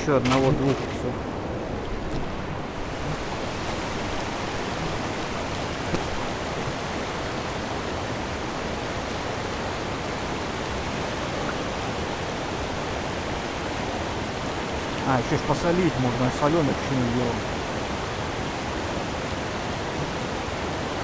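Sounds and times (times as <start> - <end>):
river rushing over stones: 0.0 - 21.0.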